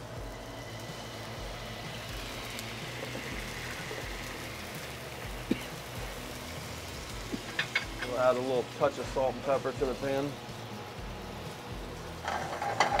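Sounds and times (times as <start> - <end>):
liquid sizzling in hot pan: 0.0 - 13.0.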